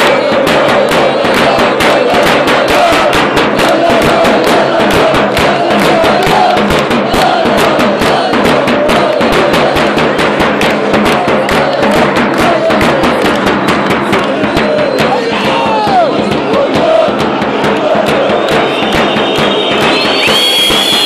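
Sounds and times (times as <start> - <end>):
bass drum beat: 0.0 - 21.0
crowd chanting: 0.0 - 21.0
hands clapping: 0.0 - 21.0.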